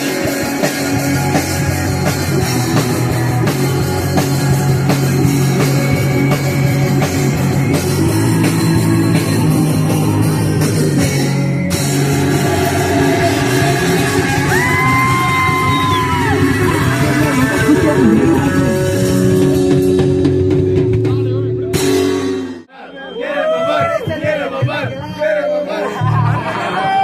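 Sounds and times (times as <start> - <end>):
punk rock band playing: 0.0 - 22.7.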